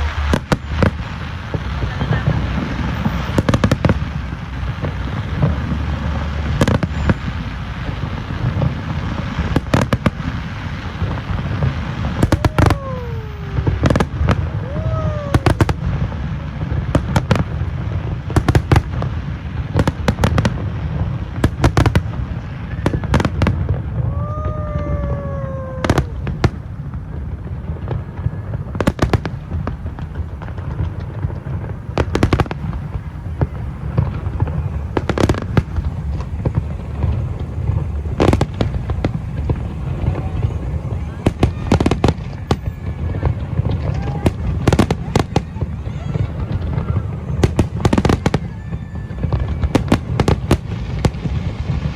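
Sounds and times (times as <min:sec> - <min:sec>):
falling firework whistles: 0:00.0 - 0:51.9
firework cracks: 0:00.0 - 0:51.9
fireworks rumbling bursts: 0:00.0 - 0:51.9.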